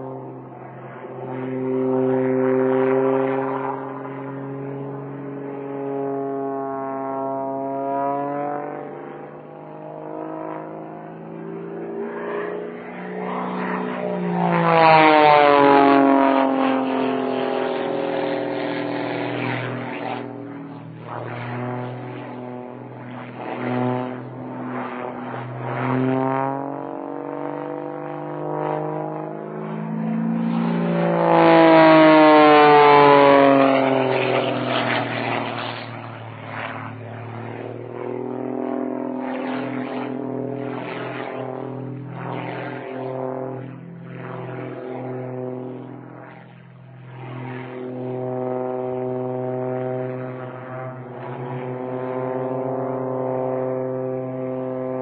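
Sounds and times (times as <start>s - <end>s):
propeller plane engine: 0.0s - 55.0s.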